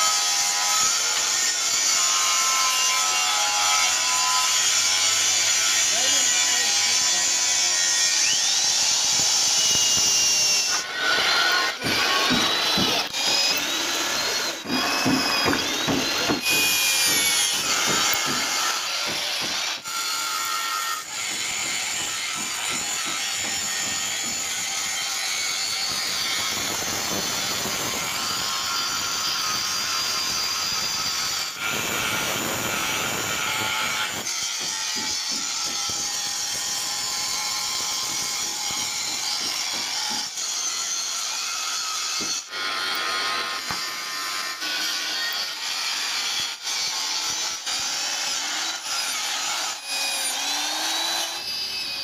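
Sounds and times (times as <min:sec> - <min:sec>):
angle grinder cutting steel: 0:00.0 - 0:52.0
drill boring through steel: 0:00.0 - 0:52.0.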